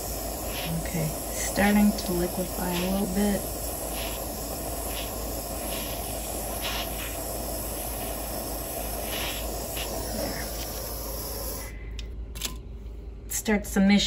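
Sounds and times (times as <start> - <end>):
torch flame hissing: 0.0 - 11.8.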